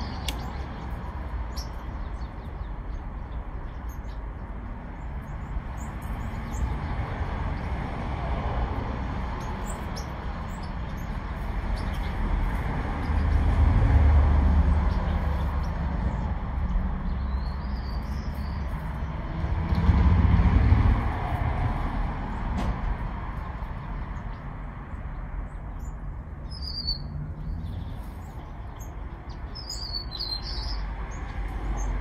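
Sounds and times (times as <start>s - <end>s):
small birds chirping: 0.0s - 7.8s, 9.1s - 13.8s, 14.6s - 19.5s, 23.6s - 32.0s.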